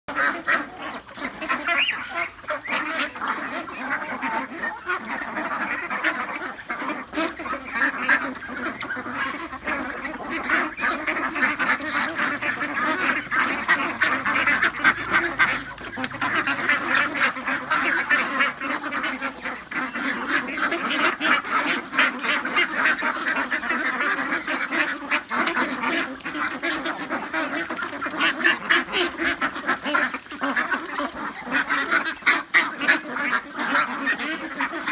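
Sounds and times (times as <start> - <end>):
flock of ducks quacking: 0.1 - 34.9.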